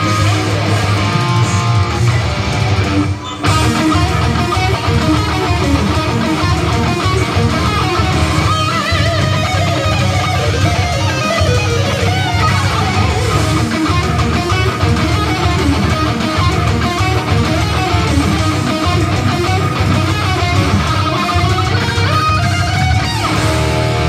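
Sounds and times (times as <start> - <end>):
electric guitar lead lines: 0.0 - 24.0.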